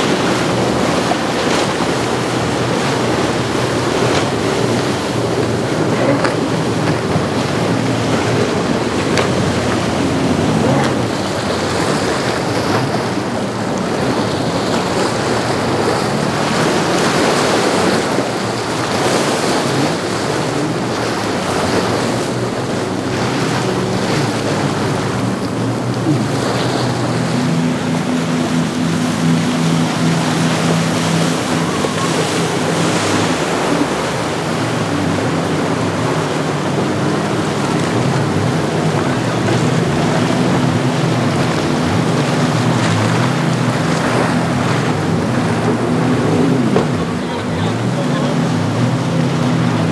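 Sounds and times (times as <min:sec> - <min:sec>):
low engine drone: 0:00.0 - 0:49.9
rush of hull spray and wake: 0:00.0 - 0:49.9.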